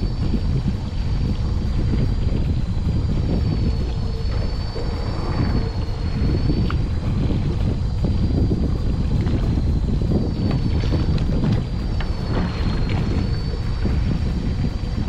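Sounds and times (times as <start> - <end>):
boat engine rumbling: 0.0 - 15.0
thin high whine: 0.0 - 15.0
wind buffeting microphone: 0.0 - 15.0.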